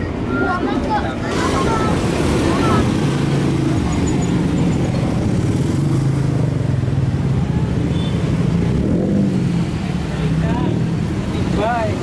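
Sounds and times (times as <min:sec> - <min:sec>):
traffic engines humming: 0:00.0 - 0:12.0.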